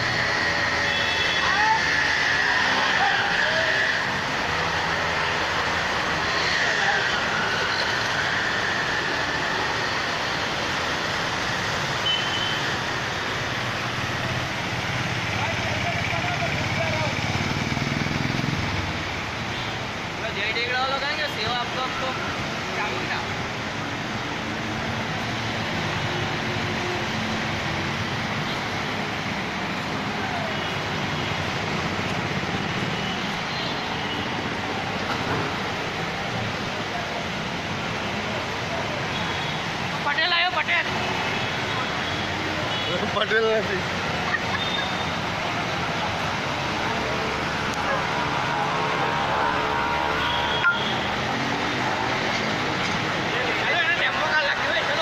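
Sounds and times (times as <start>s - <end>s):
car driving through heavy rain: 0.0s - 55.0s
road traffic: 0.0s - 55.0s.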